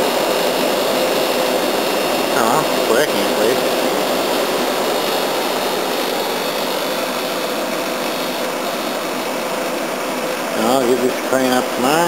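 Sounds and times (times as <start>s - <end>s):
air conditioner fan rushing: 0.0s - 12.0s
compressor hum: 0.0s - 12.0s.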